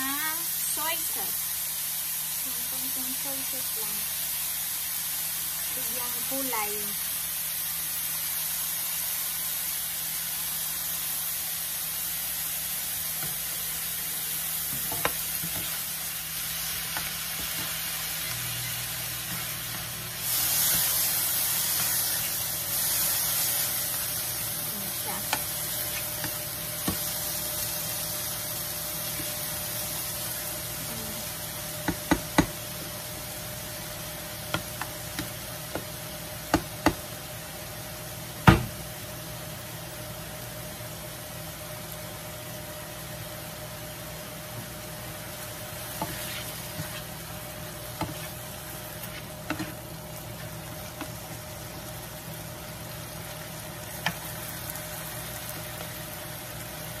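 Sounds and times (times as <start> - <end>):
meat sizzling in frying pan: 0.0 - 57.0.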